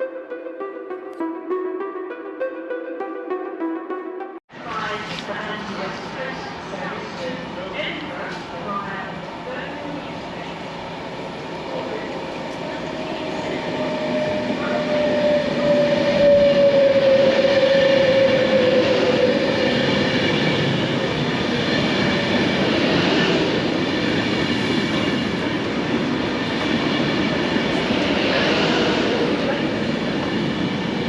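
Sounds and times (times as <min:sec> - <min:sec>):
train whine: 0:04.5 - 0:31.0
train wheels rushing on rail: 0:05.3 - 0:31.0.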